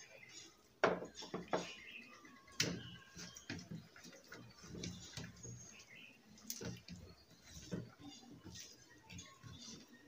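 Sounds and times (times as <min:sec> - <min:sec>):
fingers mixing food on plates: 0:00.1 - 0:10.0.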